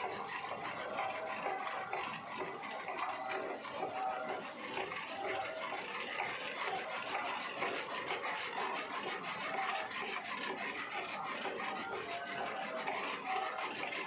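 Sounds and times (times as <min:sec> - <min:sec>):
chaff cutter chopping fodder: 0:00.0 - 0:14.0.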